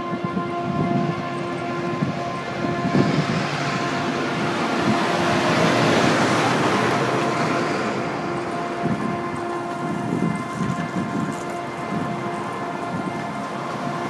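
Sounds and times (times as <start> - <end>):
rushing noise: 0.0 - 14.0.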